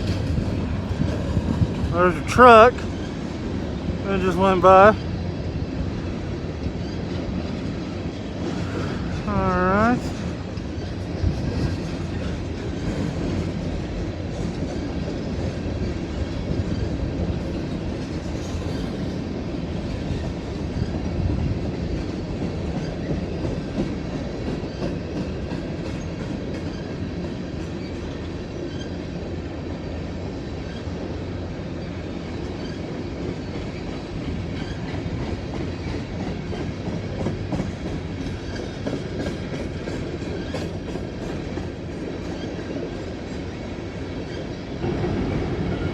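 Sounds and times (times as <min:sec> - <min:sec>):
freight train rolling past: 0:00.0 - 0:45.9.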